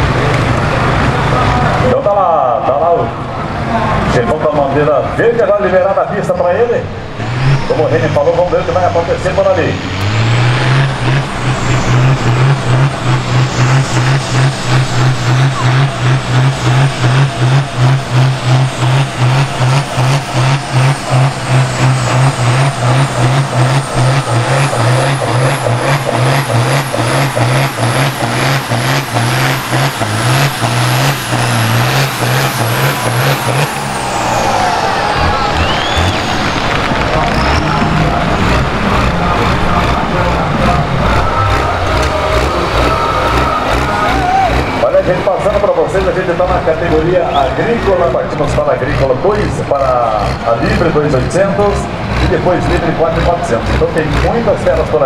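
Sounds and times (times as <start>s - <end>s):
diesel tractor engine pulsing: 0.0s - 55.0s.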